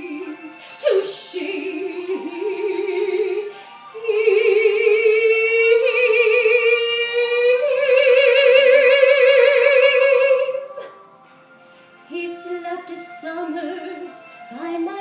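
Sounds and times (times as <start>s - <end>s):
woman singing unaccompanied: 0.0s - 10.9s, 12.1s - 15.0s.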